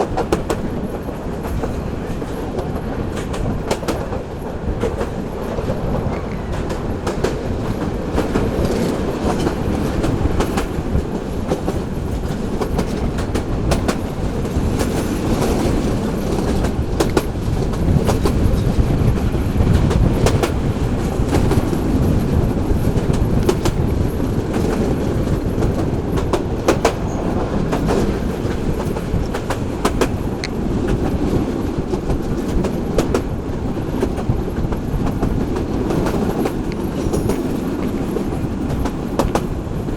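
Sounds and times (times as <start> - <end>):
train rumbling on track: 0.0 - 39.9
wheels clicking over rail joints: 0.0 - 39.9.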